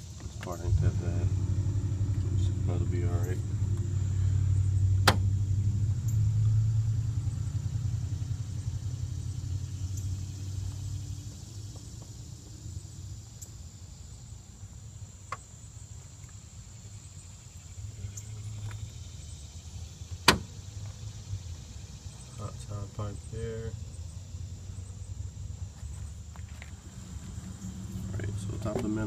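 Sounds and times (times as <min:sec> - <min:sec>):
vehicle engine rumbling: 0:00.0 - 0:29.0.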